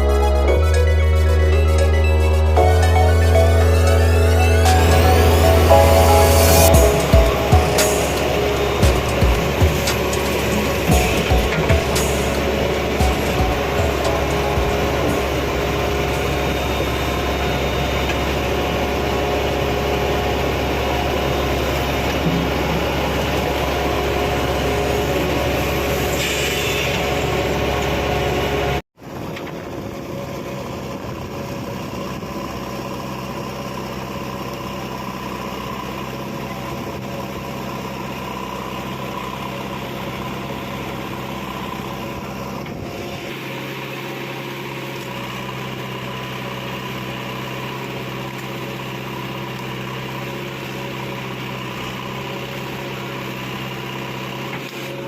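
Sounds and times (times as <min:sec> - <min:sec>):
heavy diesel engine running: 0:00.0 - 0:28.8, 0:29.6 - 0:55.0.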